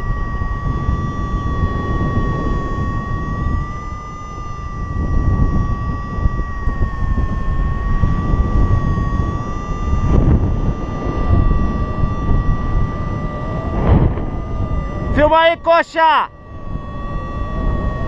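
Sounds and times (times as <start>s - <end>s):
high whistle-like tone: 0.0s - 18.0s
wind buffeting microphone: 0.0s - 18.0s.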